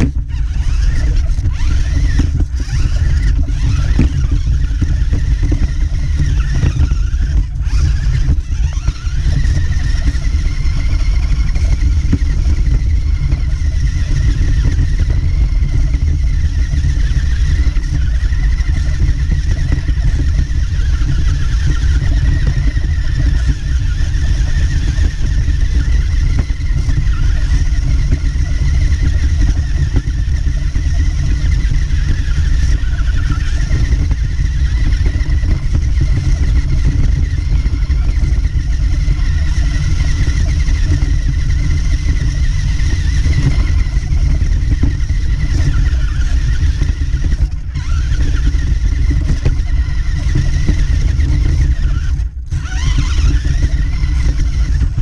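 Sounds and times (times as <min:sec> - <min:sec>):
heavy low rumble: 0:00.0 - 0:55.0
rc car motor whine: 0:00.0 - 0:55.0.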